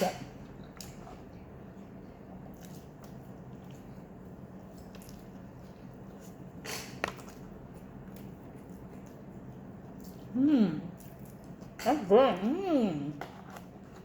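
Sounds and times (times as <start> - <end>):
low steady hum: 0.0 - 14.0
person chewing food: 0.3 - 11.8.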